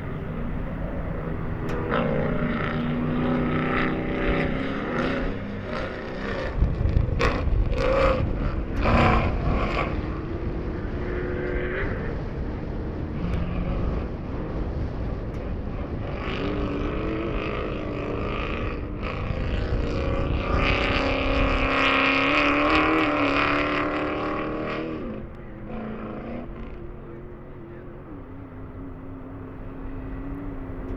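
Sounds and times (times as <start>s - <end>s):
race car engine running hard: 0.0s - 30.9s.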